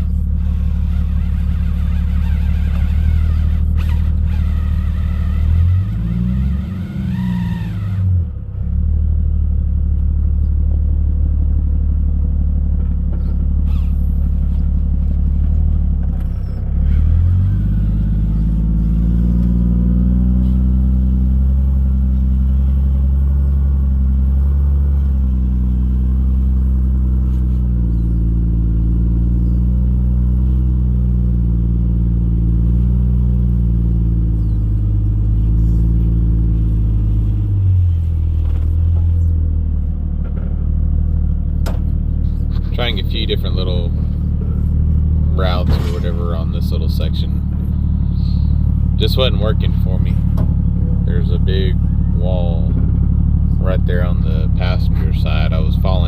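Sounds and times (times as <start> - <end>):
car engine revving at low revs: 0.0 - 56.0.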